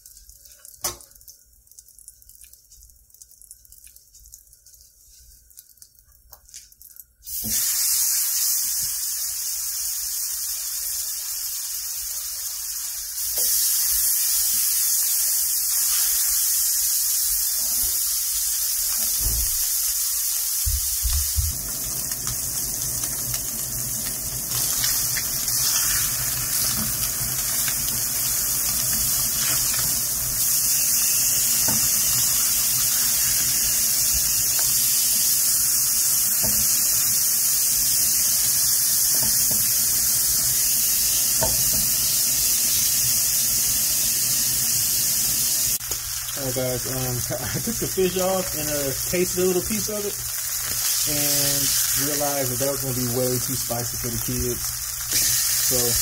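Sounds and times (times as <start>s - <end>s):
fish sizzling in oil: 7.2s - 56.0s.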